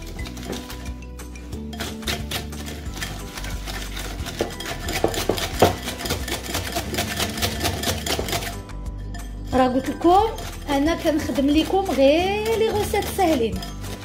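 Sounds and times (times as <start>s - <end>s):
whisk clicking against bowl: 0.0s - 8.7s, 9.4s - 14.0s.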